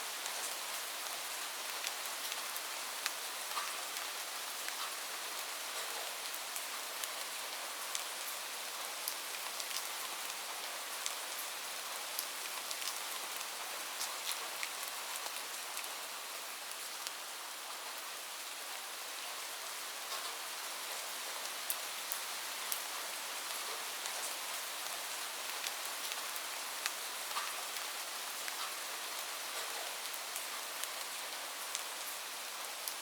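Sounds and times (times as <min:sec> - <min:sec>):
light rain hiss: 0:00.0 - 0:33.0.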